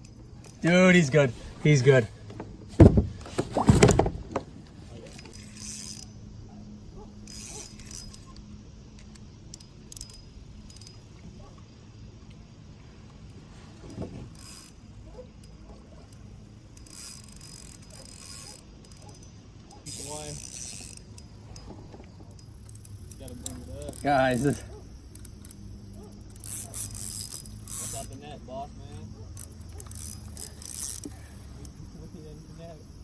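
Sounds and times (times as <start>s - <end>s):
fishing reel whirring and clicking: 0.0s - 2.0s, 4.6s - 33.0s.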